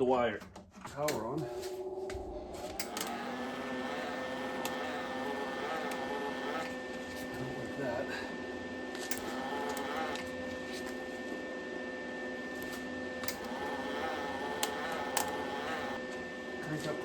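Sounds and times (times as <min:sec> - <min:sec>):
welder wire feed motor whine: 0:01.2 - 0:17.0.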